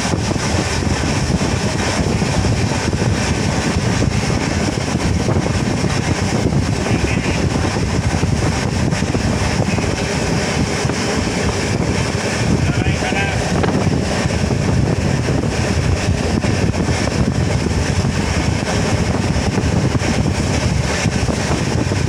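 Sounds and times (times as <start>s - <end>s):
moving train running noise: 0.0s - 22.0s
wind rushing: 0.0s - 22.0s.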